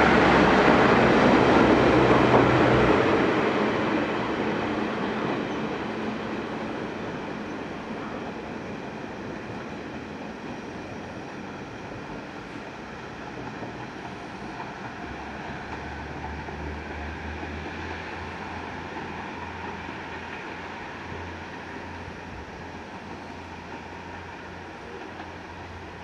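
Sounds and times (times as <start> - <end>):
moving train rumble: 0.0 - 26.0.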